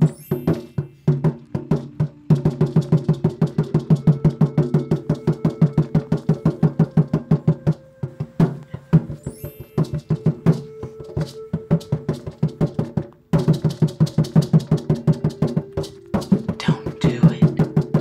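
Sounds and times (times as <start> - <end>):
wood-block-like percussion music: 0.0 - 18.0.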